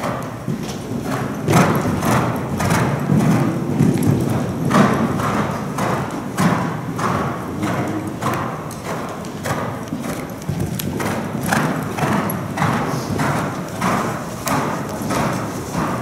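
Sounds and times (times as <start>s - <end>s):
horse hoofbeats on sand: 0.0s - 16.0s.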